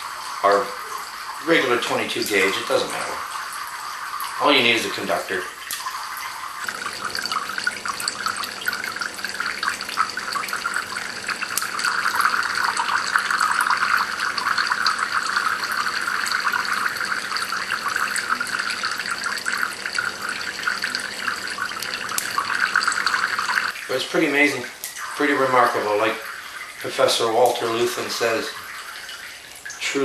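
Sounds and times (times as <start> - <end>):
water dripping into cans: 0.0 - 30.0.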